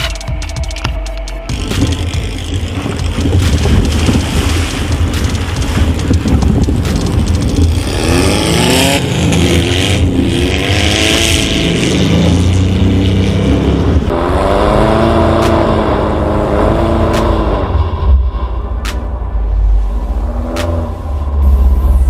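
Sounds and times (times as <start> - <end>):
car engine revving: 0.0 - 22.0
steady rushing noise: 0.0 - 22.0
low rumble: 1.4 - 22.0.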